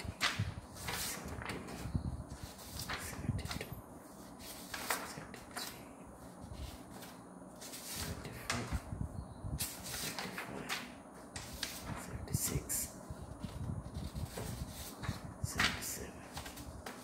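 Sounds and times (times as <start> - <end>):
paper sheets swishing: 0.0 - 8.9, 9.6 - 17.0.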